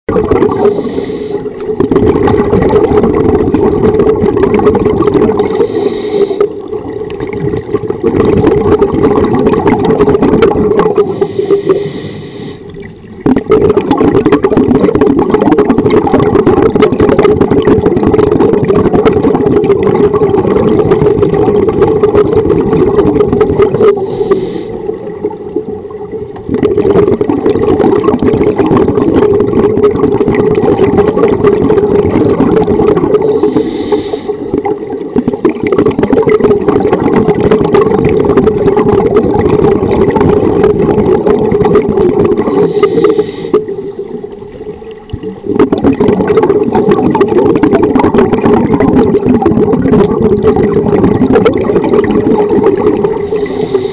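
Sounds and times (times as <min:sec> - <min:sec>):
underwater regulator bubbles rushing: 0:00.0 - 0:53.9.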